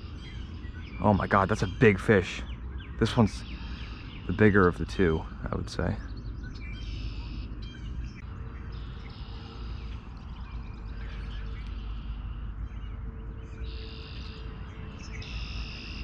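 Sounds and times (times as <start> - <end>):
birds chirping: 0.0 - 16.0
steady low rumble: 0.0 - 16.0.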